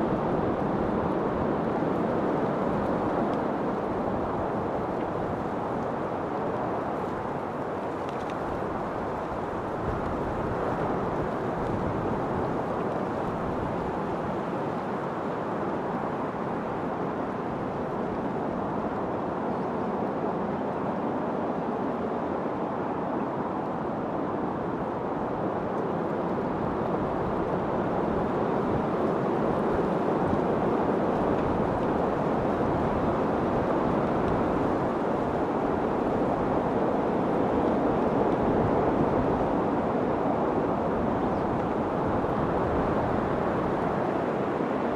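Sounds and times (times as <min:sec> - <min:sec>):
rushing wind: 0:00.0 - 0:44.9.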